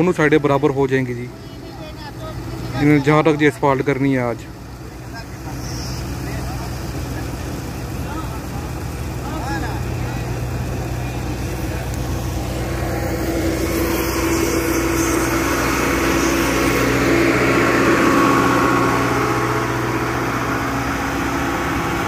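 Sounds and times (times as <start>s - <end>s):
road paving machinery engines: 0.0s - 22.0s.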